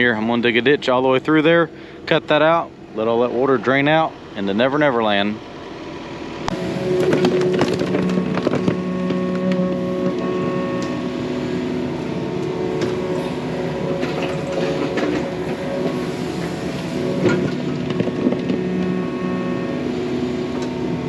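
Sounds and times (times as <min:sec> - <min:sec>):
excavator diesel engine running: 0:01.6 - 0:21.0.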